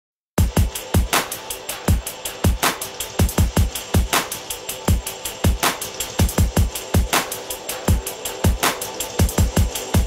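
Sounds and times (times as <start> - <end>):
electronic music with heavy drums: 0.4 - 10.0.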